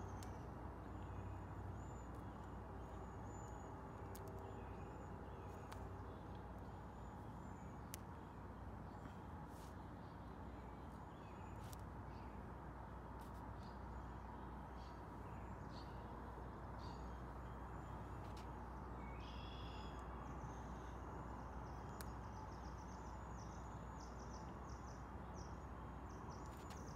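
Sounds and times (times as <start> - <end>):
small birds chirping: 0.0 - 12.4, 13.2 - 26.9
low outdoor hum: 0.0 - 26.9.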